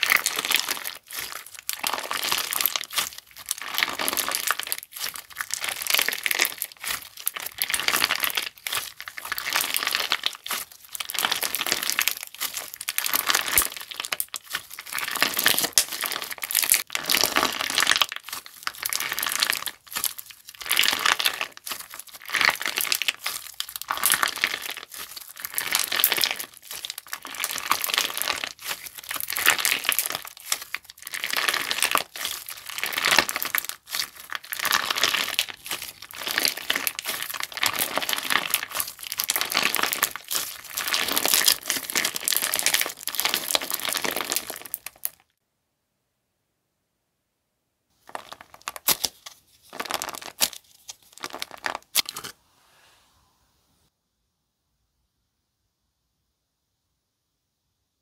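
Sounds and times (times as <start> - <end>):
crunchy slime crackling: 0.0 - 45.3, 48.0 - 52.3.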